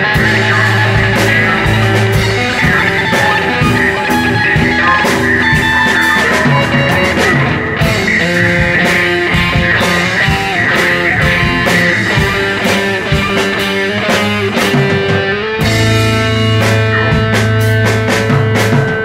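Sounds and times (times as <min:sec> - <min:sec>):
guitar holding notes: 0:00.0 - 0:19.0
rock band playing: 0:00.0 - 0:19.0.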